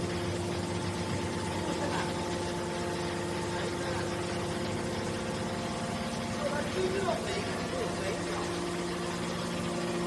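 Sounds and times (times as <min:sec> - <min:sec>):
hydraulic power unit humming: 0:00.0 - 0:10.0.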